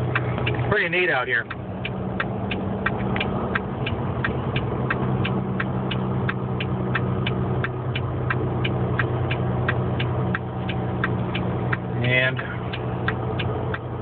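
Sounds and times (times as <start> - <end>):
diesel truck engine running: 0.0 - 14.0
light ticking: 0.1 - 14.0.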